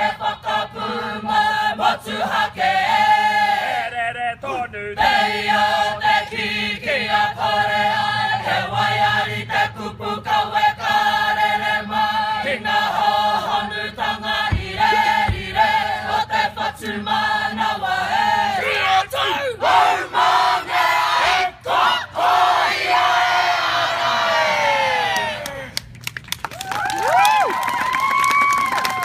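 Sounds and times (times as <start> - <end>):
group singing in chorus: 0.0 - 24.4.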